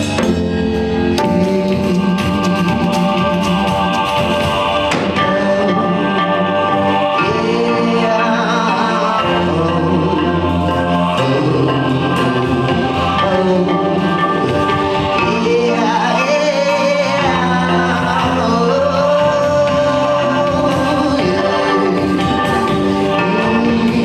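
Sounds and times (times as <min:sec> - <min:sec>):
live band playing: 0:00.0 - 0:24.0
wordless sung vocal: 0:00.0 - 0:24.0.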